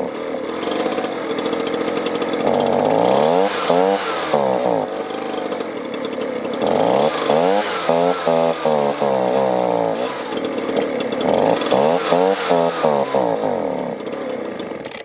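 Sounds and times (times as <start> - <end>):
leaf blower engine revving unevenly: 0.0 - 15.0.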